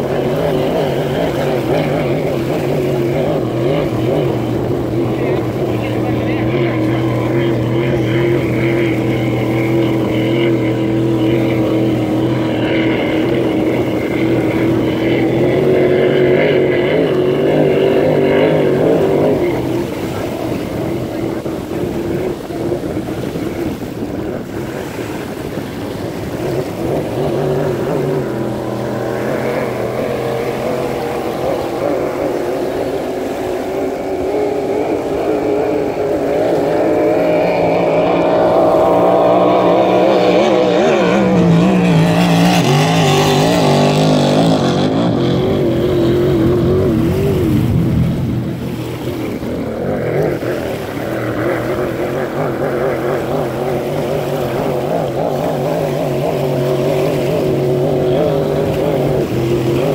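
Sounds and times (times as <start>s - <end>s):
powerboat engine at high revs: 0.0s - 59.9s.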